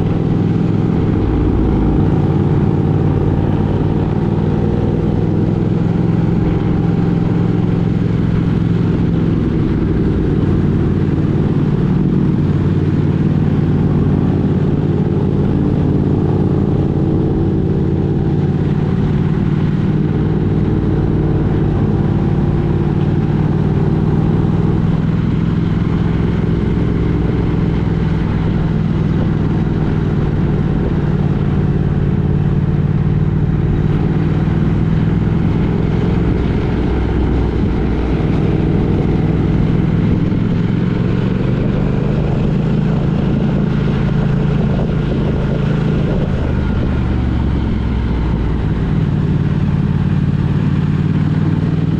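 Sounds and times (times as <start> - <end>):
road noise: 0.0 - 51.9
vehicle engine running: 0.0 - 51.9.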